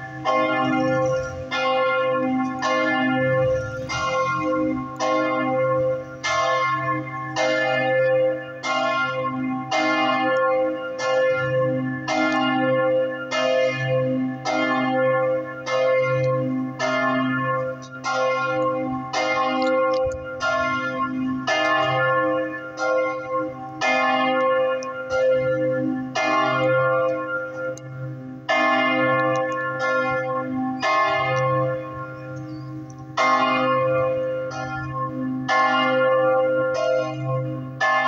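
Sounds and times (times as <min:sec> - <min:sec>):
church bells ringing a peal: 0:00.0 - 0:38.0.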